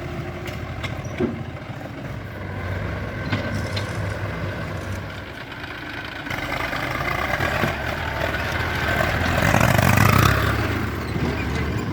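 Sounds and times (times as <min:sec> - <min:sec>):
diesel engine low hum: 0:00.0 - 0:11.9.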